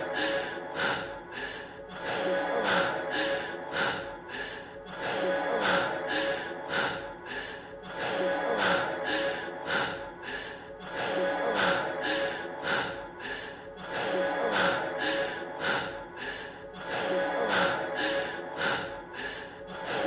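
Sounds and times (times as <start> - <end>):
man breathing heavily: 0.0 - 20.0.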